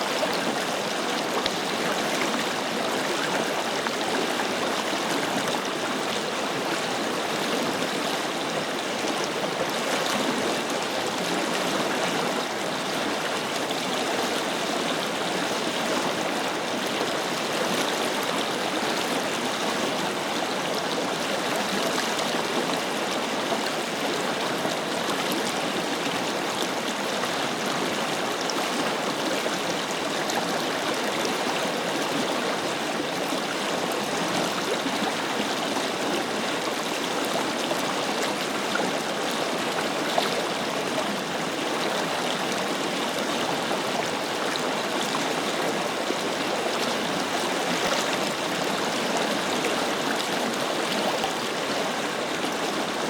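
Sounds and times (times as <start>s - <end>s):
river flowing over rocks: 0.0s - 53.0s.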